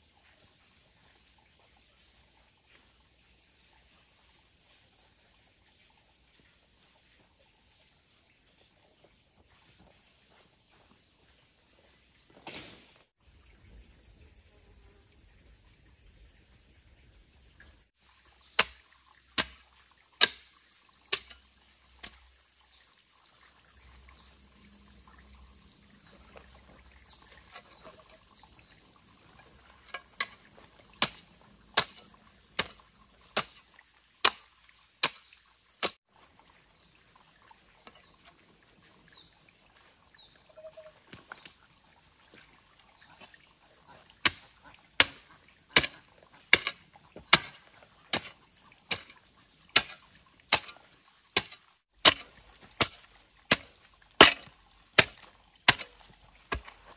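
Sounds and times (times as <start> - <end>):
insects chirring: 1.0 - 56.9.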